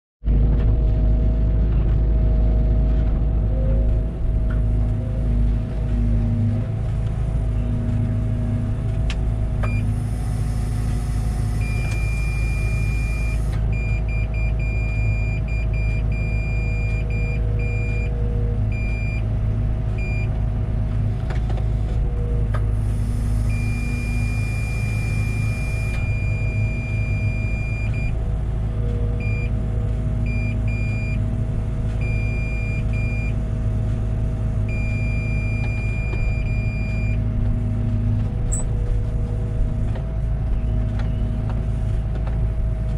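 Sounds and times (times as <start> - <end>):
excavator diesel engine running: 0.3 - 42.9.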